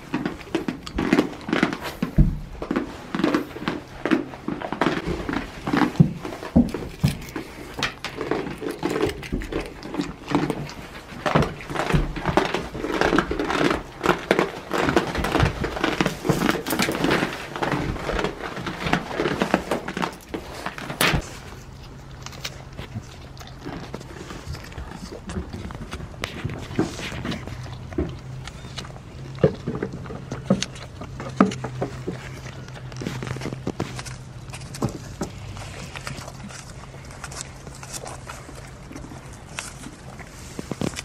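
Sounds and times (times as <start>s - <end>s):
goats chewing branches: 0.0s - 41.0s.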